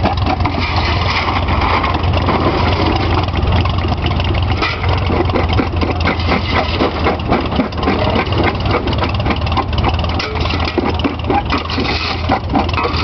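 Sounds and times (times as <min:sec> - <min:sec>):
rock crusher clatter: 0:00.0 - 0:13.0
tractor engine running: 0:00.0 - 0:13.0.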